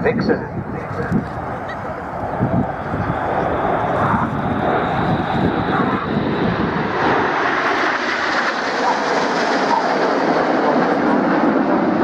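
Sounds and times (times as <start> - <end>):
jet aircraft roar flying past: 0.0 - 12.0.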